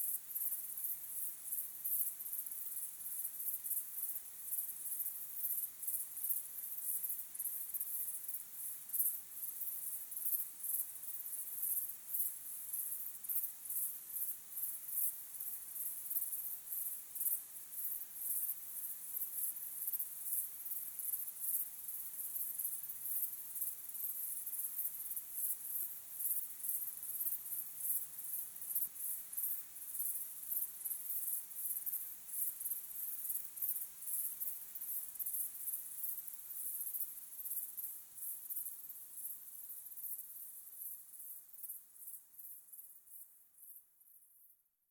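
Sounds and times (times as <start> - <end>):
crickets chirping: 0.4 - 44.1.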